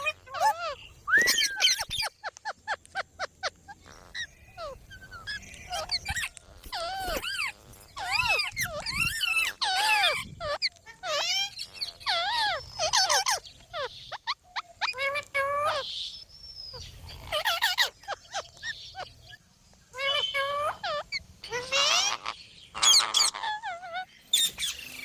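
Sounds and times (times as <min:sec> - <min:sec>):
parrot squawks: 0:00.0 - 0:15.9, 0:19.9 - 0:24.9
parrot chirps: 0:00.0 - 0:25.0.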